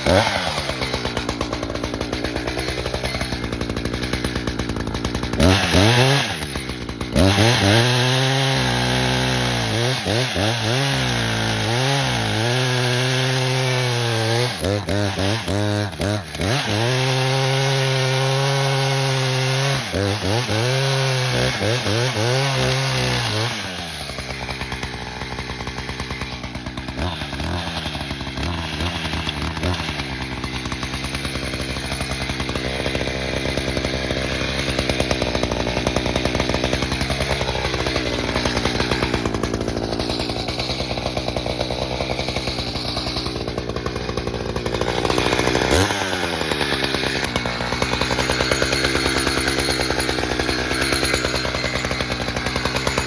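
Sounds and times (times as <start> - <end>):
chainsaw running: 0.0 - 53.0.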